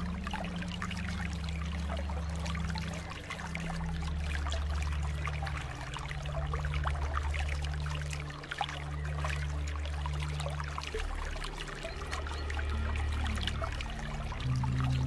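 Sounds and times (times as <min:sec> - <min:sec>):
pool water trickling and splashing: 0:00.0 - 0:15.0
steady low hum: 0:00.0 - 0:15.0.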